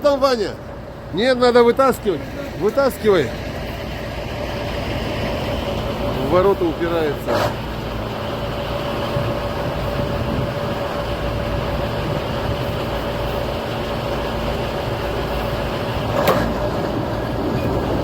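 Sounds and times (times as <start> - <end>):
diesel tractor engines running: 0.0 - 18.0
steady whine: 0.0 - 18.0.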